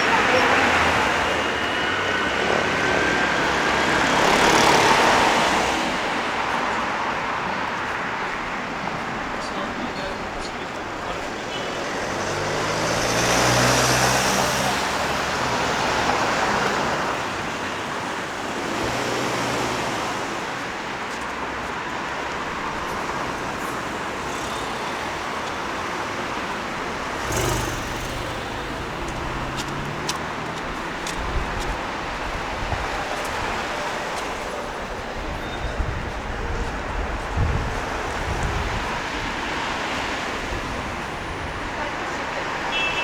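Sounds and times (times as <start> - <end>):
steady traffic hum: 0.0 - 43.0
vehicles passing: 0.0 - 43.0.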